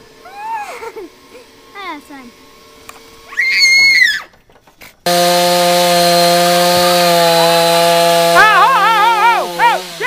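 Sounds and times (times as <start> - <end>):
chainsaw running: 0.0 - 4.3, 5.0 - 10.0.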